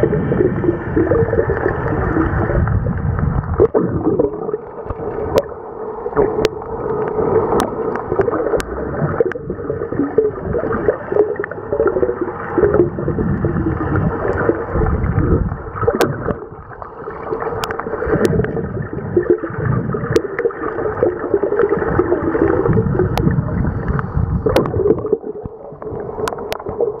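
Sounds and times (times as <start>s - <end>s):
underwater churning and gurgling: 0.0s - 27.0s.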